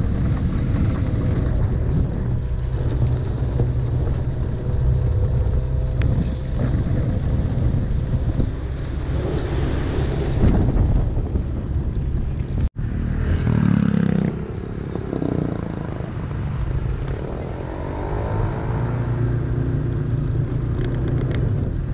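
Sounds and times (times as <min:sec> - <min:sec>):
vehicle engines passing: 0:00.0 - 0:21.9.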